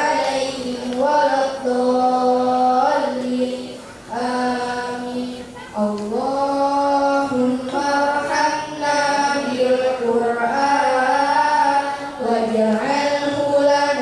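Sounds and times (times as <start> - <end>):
person chanting a prayer into microphone: 0.0 - 14.0.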